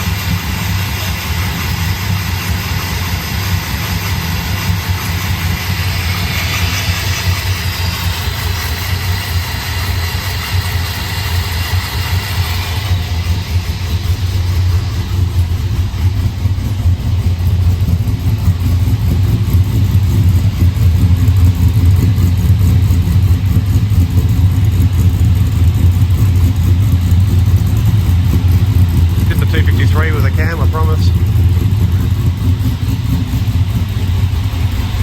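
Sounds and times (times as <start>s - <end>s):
engine idling with choppy rumble: 0.0s - 35.0s.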